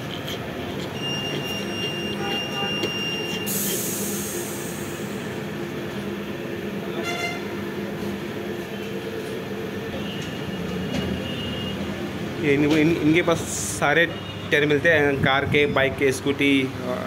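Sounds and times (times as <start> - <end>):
roadside traffic drone: 0.0 - 17.0.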